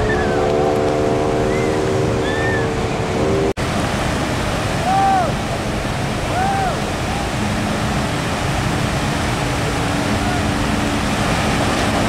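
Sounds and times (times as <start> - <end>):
surf washing on sandy beach: 0.0 - 12.0.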